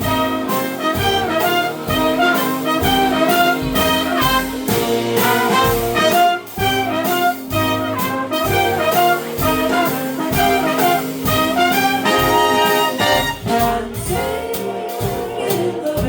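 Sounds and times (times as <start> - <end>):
big band brass playing: 0.0 - 16.0.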